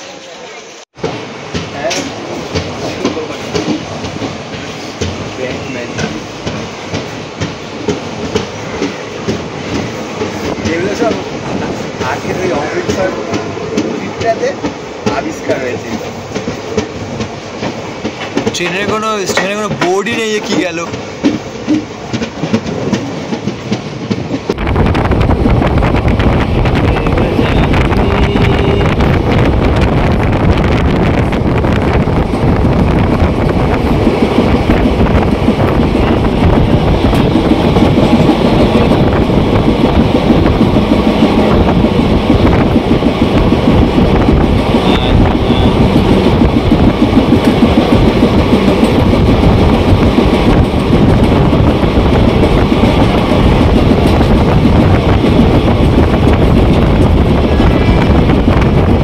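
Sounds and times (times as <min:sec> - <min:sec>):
train wheels rumbling on rails: 0:00.0 - 0:59.0
clickety-clack of rail joints: 0:01.0 - 0:59.0.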